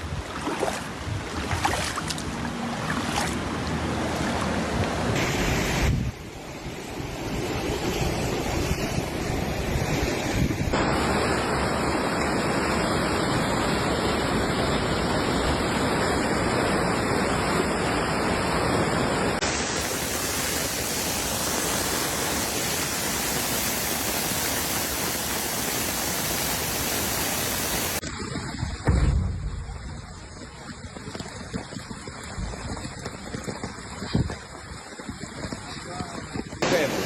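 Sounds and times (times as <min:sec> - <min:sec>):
rushing floodwater roar: 0:00.0 - 0:37.0.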